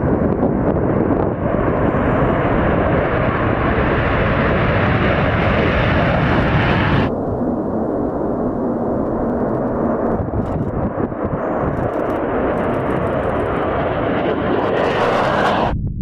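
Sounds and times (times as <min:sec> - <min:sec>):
jet engines roaring: 0:00.0 - 0:15.8
dull jet rumble: 0:00.0 - 0:16.0.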